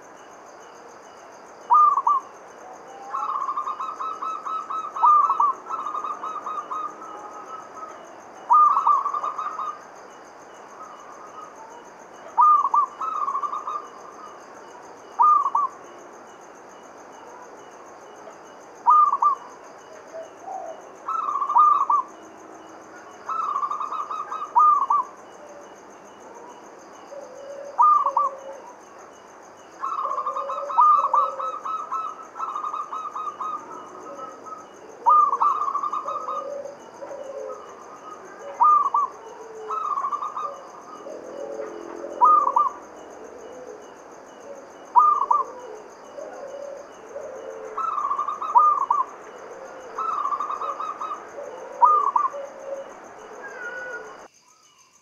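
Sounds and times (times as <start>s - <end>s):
dove cooing: 1.7s - 9.8s, 10.8s - 15.8s, 18.8s - 22.2s, 23.0s - 28.8s, 29.8s - 54.3s.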